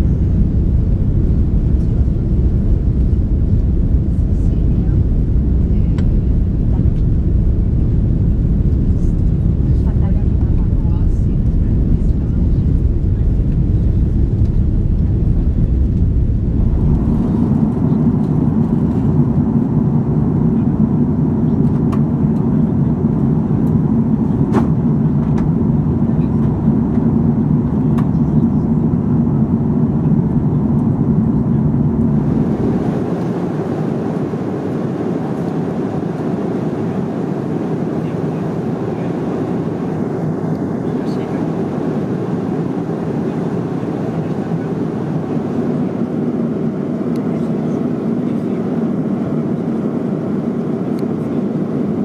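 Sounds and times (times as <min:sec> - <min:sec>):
airliner engines rumbling: 0:00.0 - 0:52.0.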